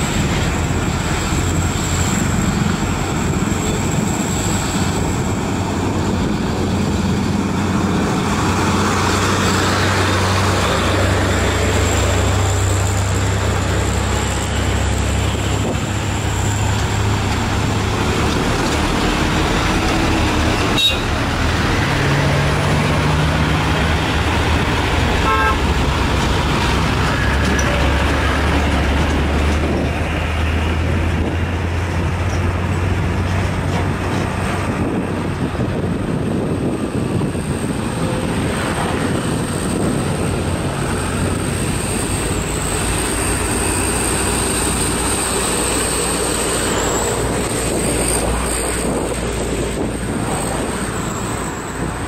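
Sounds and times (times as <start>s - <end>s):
diesel truck engine drone: 0.0s - 52.0s
road traffic passing: 0.0s - 52.0s.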